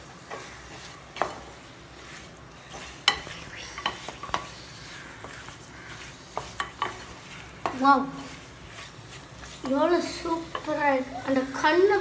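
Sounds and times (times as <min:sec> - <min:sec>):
food sizzling: 0:00.0 - 0:12.0
spatula scraping pot: 0:00.2 - 0:12.0.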